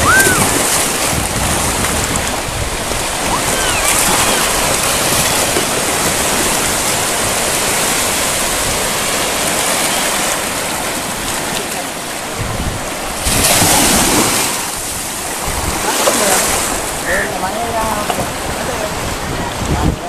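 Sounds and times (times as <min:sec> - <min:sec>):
waves washing onto a beach: 0:00.0 - 0:20.0.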